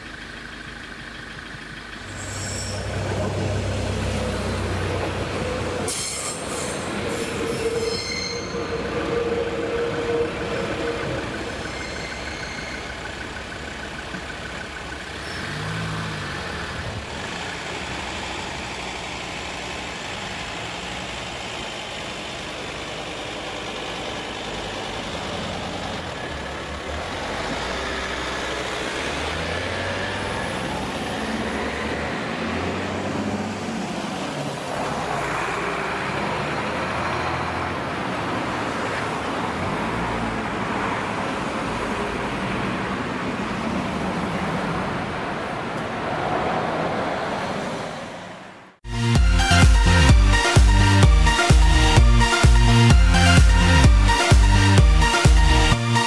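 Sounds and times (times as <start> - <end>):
cars driving over crossing: 0.0 - 56.0
railcar high whine: 0.2 - 15.6, 16.6 - 49.0.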